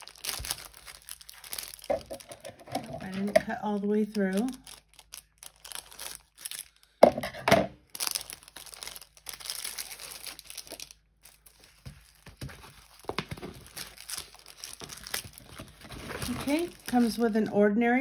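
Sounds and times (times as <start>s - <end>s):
plastic bag crinkling: 0.0s - 7.2s, 7.8s - 17.6s.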